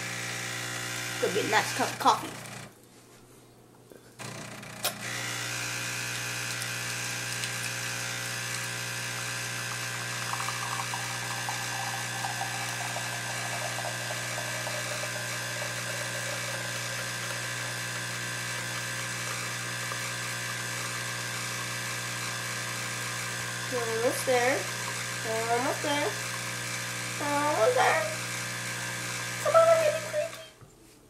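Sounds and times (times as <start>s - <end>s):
coffee machine buzzing: 0.0s - 2.8s, 4.2s - 30.6s.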